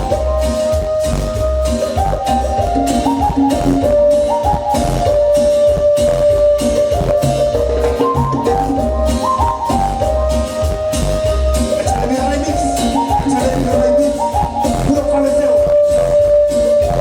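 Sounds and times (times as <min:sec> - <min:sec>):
instrumental cumbia music: 0:00.0 - 0:17.0.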